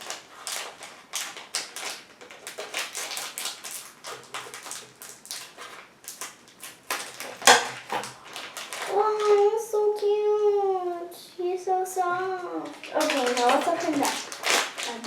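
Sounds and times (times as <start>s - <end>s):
plastic packaging crinkling: 0.0s - 10.1s, 12.3s - 15.0s.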